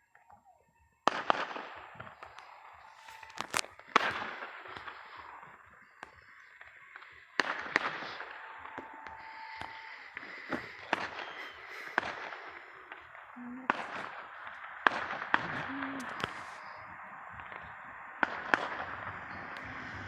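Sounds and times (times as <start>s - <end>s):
fireworks bangs and pops: 0.1s - 20.0s
steady hiss: 1.1s - 20.0s.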